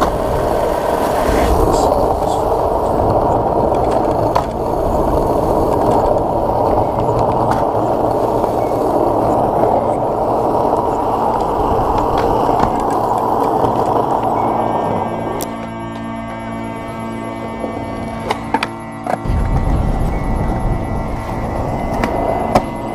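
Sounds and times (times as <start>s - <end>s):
skateboard wheels on asphalt: 0.0s - 22.9s.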